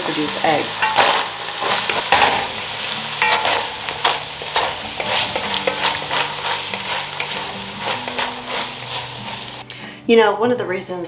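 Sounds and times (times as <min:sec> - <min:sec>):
utensil scraping and clinking: 0:00.0 - 0:09.6
food sizzling in a pan: 0:00.0 - 0:09.7.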